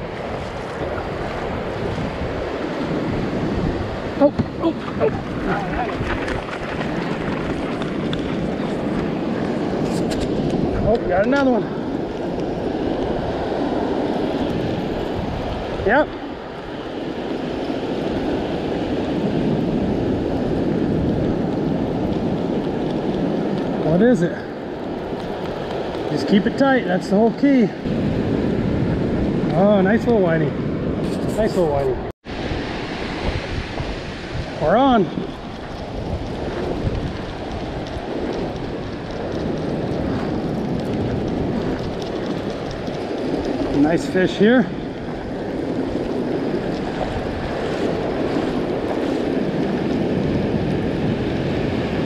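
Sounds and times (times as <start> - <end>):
ocean surf breaking: 0.0 - 52.0
wind rumble on microphone: 0.0 - 52.0.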